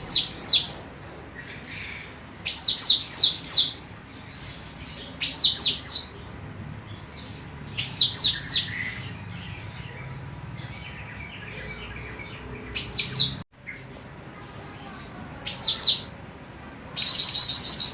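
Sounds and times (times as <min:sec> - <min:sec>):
bird chirping: 0:00.0 - 0:17.9.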